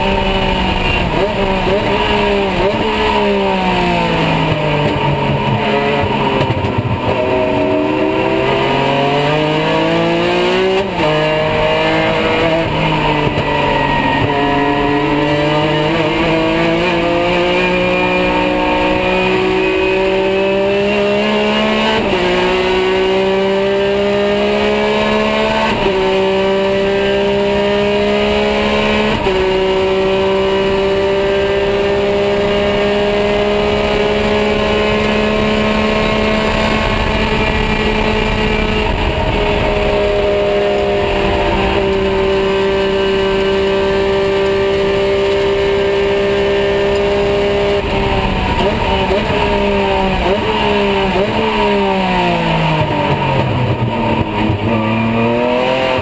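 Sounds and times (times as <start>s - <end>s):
race car engine from cockpit: 0.0s - 56.0s.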